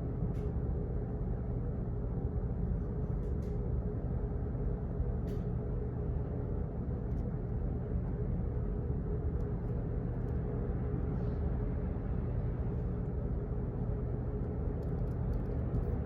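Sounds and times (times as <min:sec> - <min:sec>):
faint constant hum: 0:00.0 - 0:16.0
office background rumble: 0:00.0 - 0:16.0.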